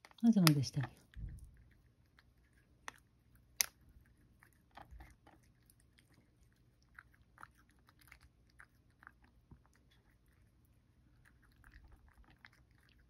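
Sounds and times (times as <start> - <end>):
cat chewing wet food: 0.8 - 13.0.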